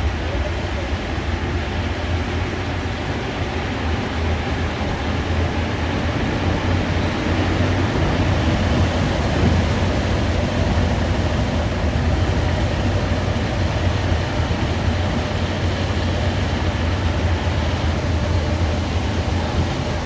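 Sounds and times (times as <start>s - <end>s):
train cabin hum: 0.0s - 20.0s
train rolling rumble: 0.0s - 20.0s.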